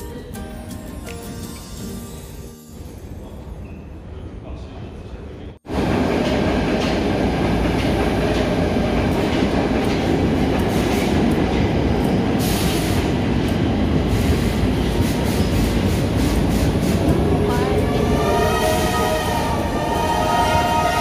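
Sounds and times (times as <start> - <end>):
metro train rumbling: 2.8 - 21.0.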